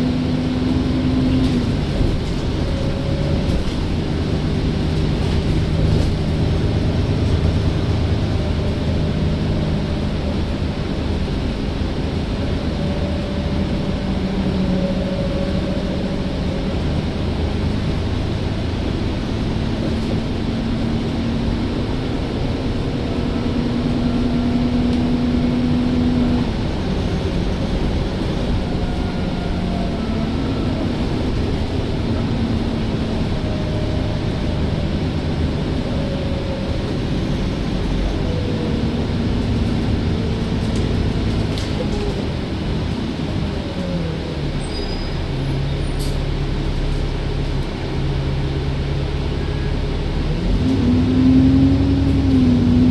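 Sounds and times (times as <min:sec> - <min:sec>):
bus engine running: 0:00.0 - 0:52.9.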